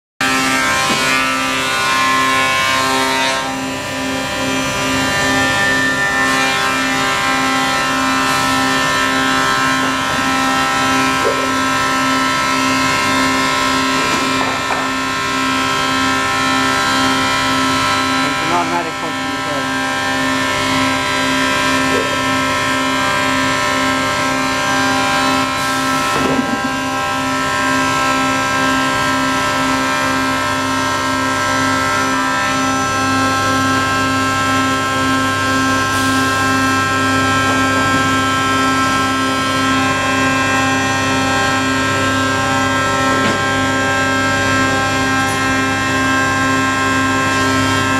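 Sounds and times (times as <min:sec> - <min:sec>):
machine hum and whine: 0:00.2 - 0:47.9.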